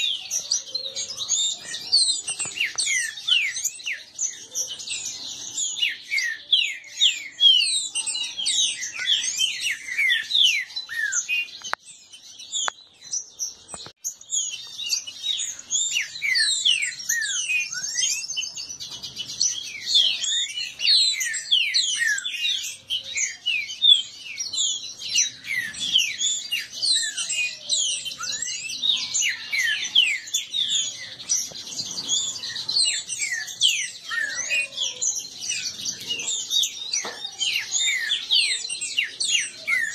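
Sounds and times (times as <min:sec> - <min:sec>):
birds singing sharp whistles: 0:00.0 - 0:39.9.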